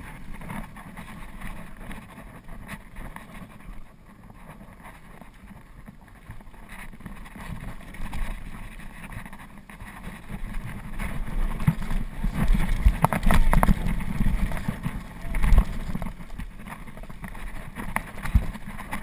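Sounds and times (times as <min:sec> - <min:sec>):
bike tyres rolling over dirt: 0:00.0 - 0:19.0
wind rumbling on microphone: 0:00.0 - 0:19.0.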